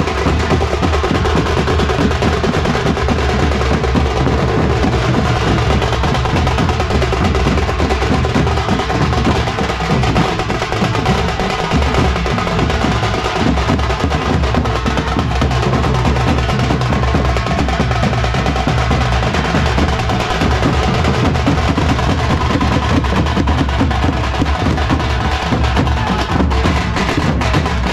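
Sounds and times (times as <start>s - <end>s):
deep dhol drum beats: 0.0s - 27.9s.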